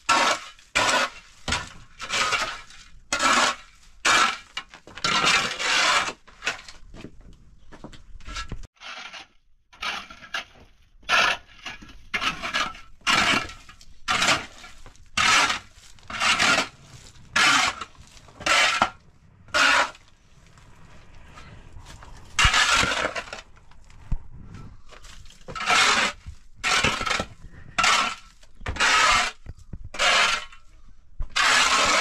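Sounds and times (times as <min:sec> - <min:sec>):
shovel scraping rubble floor: 0:00.0 - 0:07.0, 0:08.2 - 0:32.0.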